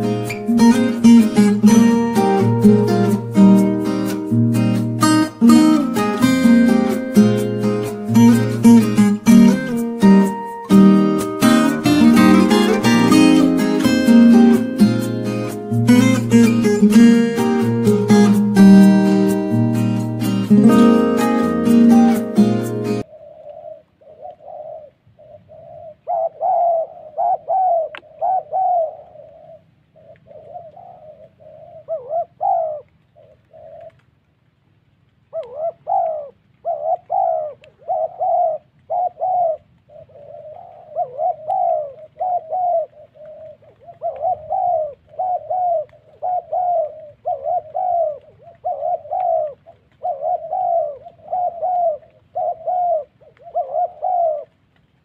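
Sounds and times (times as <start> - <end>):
doves cooing: 0.0 - 34.1, 35.3 - 55.0.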